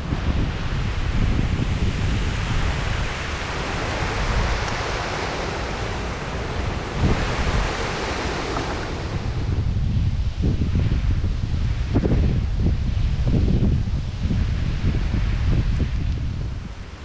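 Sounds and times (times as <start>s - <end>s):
wind buffeting microphone: 0.0s - 17.0s
wind rushing through trees: 0.0s - 17.0s.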